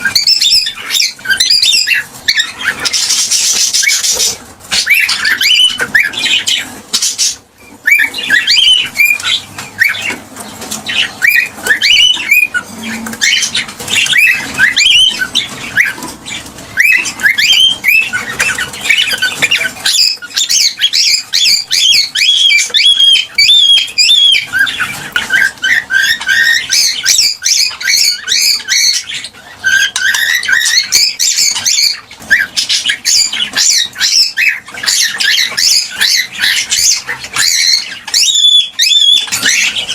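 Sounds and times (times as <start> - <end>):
cockatiel chirping: 0.0 - 39.9.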